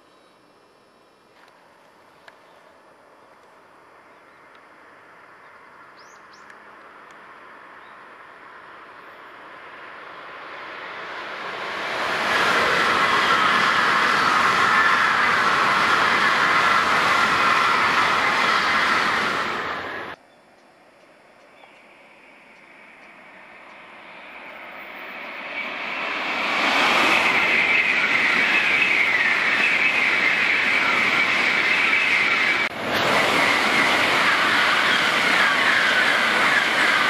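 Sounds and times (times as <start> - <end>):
high-speed train passing: 0.0 - 37.0.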